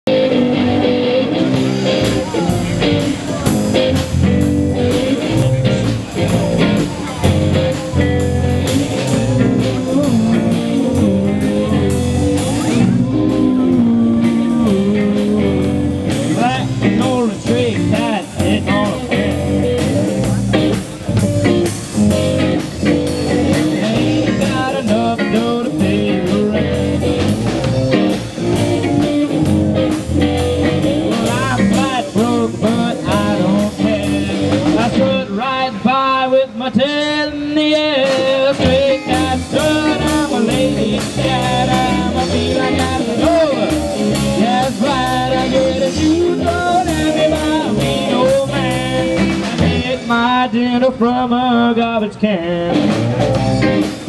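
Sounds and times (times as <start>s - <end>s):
drum kit steady beat: 0.1s - 35.3s, 37.7s - 50.5s, 52.7s - 54.0s
amplified electric guitars: 0.1s - 54.0s.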